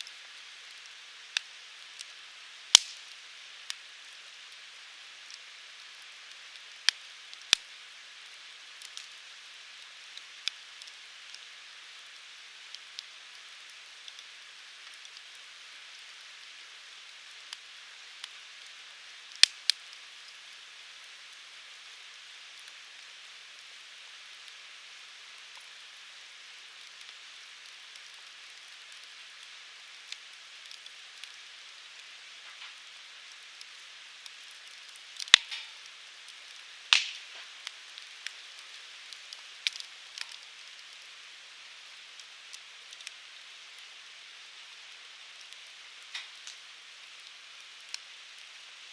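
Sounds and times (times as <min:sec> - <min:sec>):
fire hissing: 0:00.0 - 0:48.9
firewood crackling and popping: 0:00.0 - 0:48.9.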